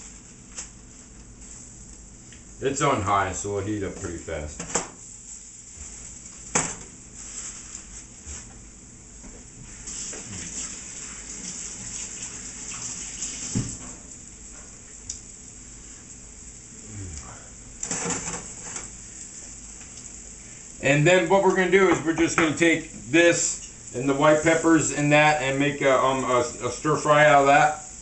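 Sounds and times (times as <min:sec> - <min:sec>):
chicken sizzling in a pan: 0:00.0 - 0:01.9, 0:02.5 - 0:08.4, 0:09.5 - 0:28.0.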